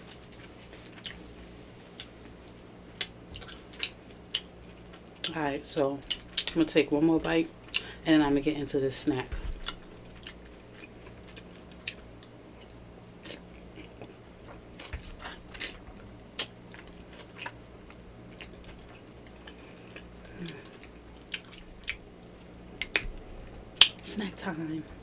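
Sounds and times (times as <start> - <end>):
person chewing with wet clicks: 0.0 - 1.2, 1.9 - 7.9, 9.5 - 24.0.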